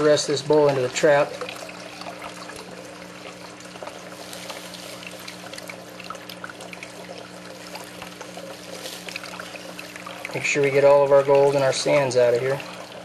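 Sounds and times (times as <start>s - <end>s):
water pouring and trickling: 0.0s - 13.0s.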